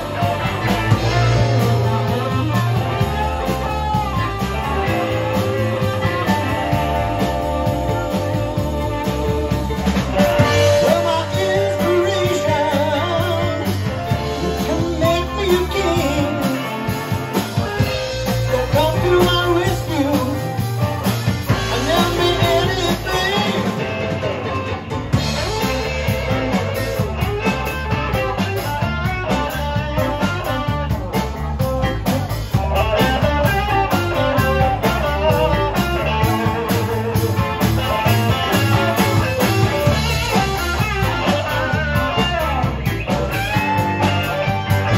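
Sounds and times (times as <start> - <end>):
electric guitar lead line: 0.0 - 44.9
rock band music: 0.0 - 44.9.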